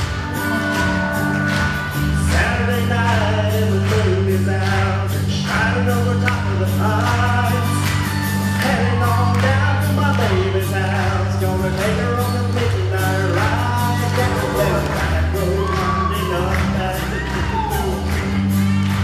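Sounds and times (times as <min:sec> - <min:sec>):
song with singing and bass: 0:00.0 - 0:19.0.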